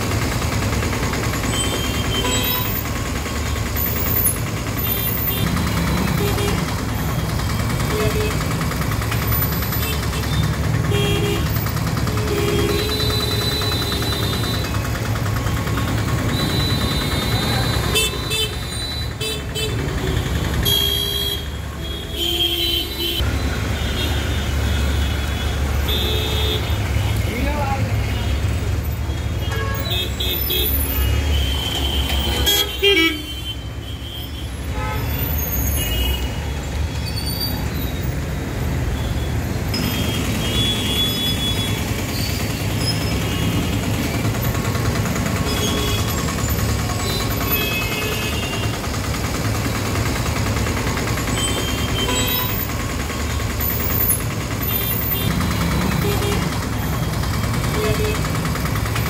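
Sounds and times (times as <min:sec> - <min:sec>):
idling engines rumble: 0:00.0 - 0:59.0
car and motorbike horns honking: 0:01.5 - 0:02.9, 0:04.8 - 0:07.0, 0:07.8 - 0:08.7, 0:09.7 - 0:15.0, 0:16.0 - 0:37.0, 0:38.8 - 0:49.4, 0:51.2 - 0:52.8, 0:54.2 - 0:59.0.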